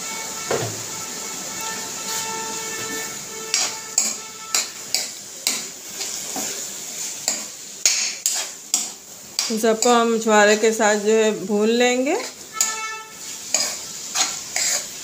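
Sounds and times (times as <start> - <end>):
metal spoon scraping metal pan: 1.5 - 6.6, 7.2 - 15.0.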